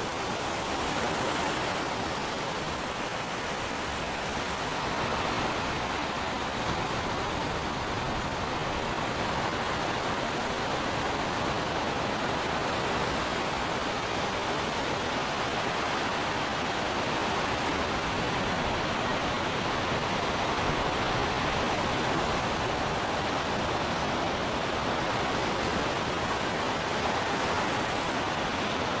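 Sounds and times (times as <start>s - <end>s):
rushing water: 0.0s - 29.0s.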